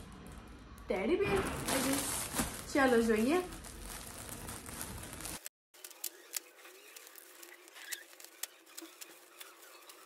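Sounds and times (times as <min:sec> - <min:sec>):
foil gift wrap tearing and crinkling: 0:01.6 - 0:10.0.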